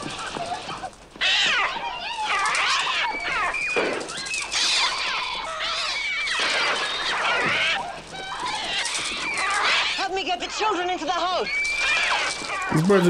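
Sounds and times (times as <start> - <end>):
gulls screeching: 0.0 - 13.0.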